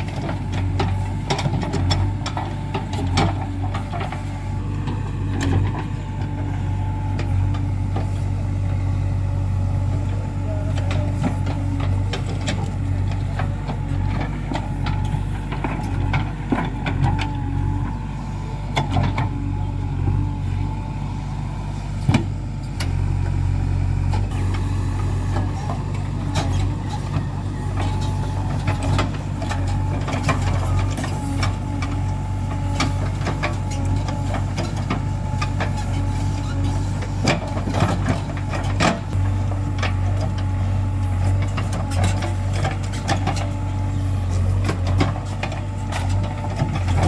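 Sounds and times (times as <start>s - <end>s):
diesel engine running under load: 0.0s - 47.0s.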